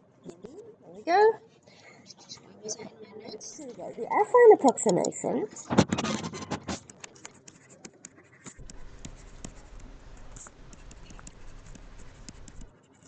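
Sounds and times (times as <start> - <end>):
stylus tapping and scratching screen: 2.1 - 13.0.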